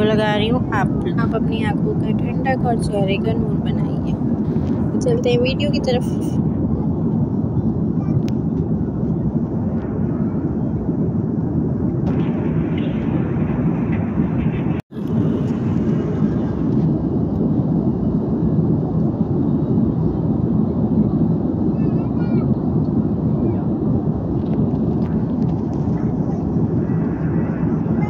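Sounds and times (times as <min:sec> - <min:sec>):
jet airliner cabin noise: 0:00.0 - 0:28.0.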